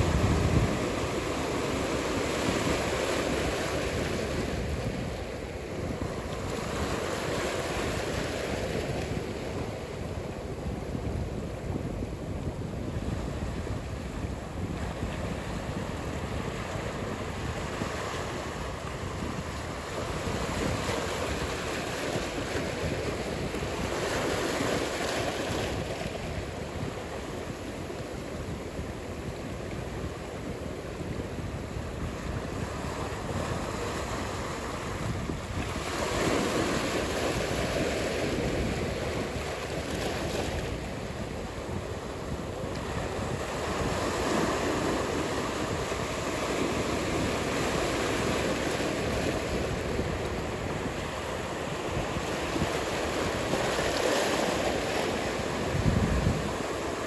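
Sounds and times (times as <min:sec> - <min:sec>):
breaking ocean waves: 0:00.0 - 0:57.0.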